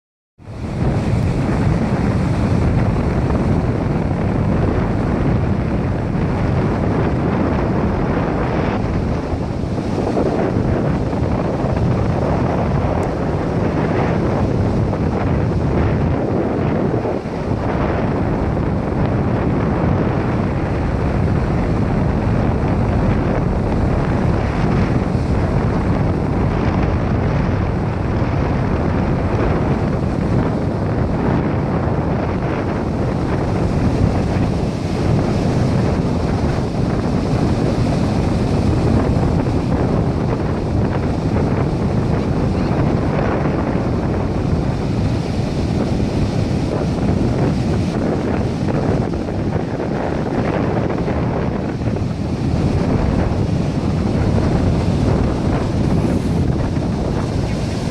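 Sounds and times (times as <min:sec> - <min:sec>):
surf: 0:00.4 - 0:57.9
wind blowing on microphone: 0:00.4 - 0:57.9.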